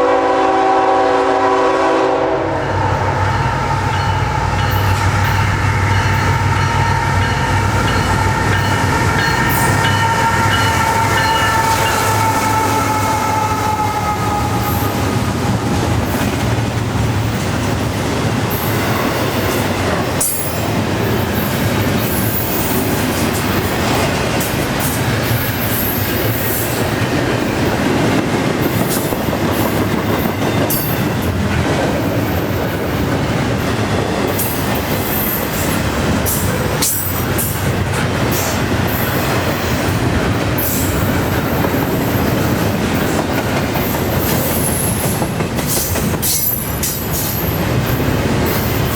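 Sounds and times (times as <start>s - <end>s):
train wheels rumbling and clattering: 0.0s - 48.9s.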